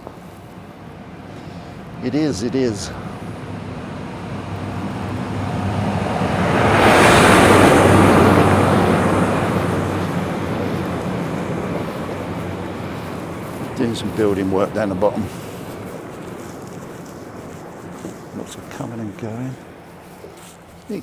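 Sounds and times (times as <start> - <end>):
lorry driving past: 1.0 - 21.0.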